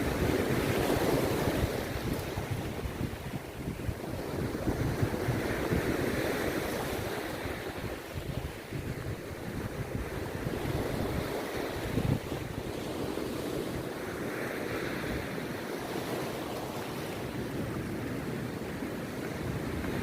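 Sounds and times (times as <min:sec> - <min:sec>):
sea waves breaking on beach: 0:00.0 - 0:20.0
wind buffeting microphone: 0:00.0 - 0:20.0.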